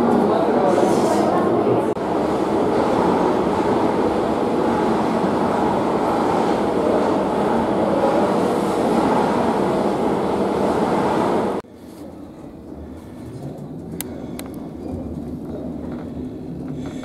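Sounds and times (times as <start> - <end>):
rumble of train wheels on rail: 0.0 - 17.0.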